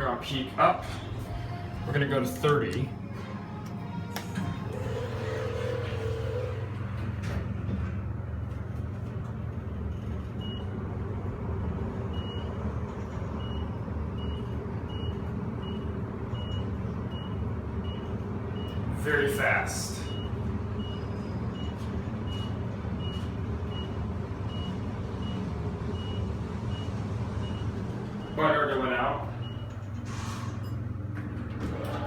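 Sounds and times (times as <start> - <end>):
elevator car humming and rumbling: 0.0 - 32.0.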